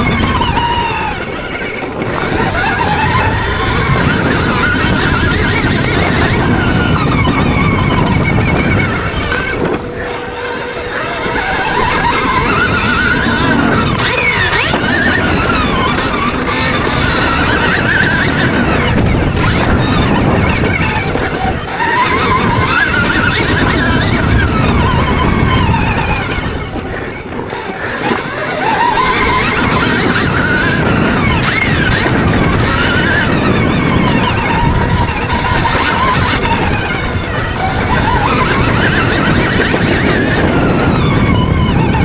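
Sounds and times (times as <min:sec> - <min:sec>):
electric motorbike motor whining: 0:00.0 - 0:42.0
rough noise: 0:00.0 - 0:42.0.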